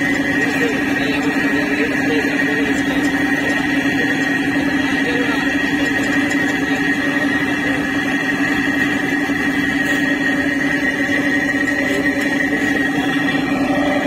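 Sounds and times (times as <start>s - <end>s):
boat engine droning: 0.0s - 14.0s
steady high whine: 0.0s - 14.0s.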